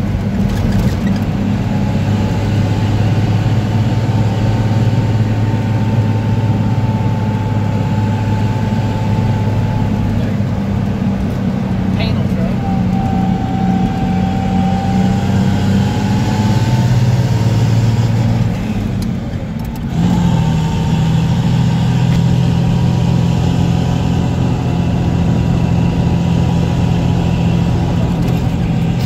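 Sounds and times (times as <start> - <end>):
truck diesel engine from cab: 0.0 - 29.0.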